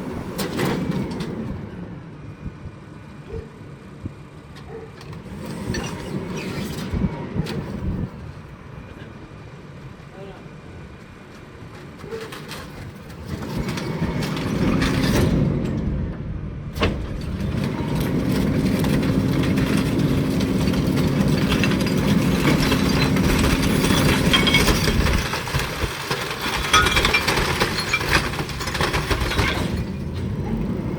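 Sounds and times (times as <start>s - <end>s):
garbage truck packer humming: 0.0s - 30.9s.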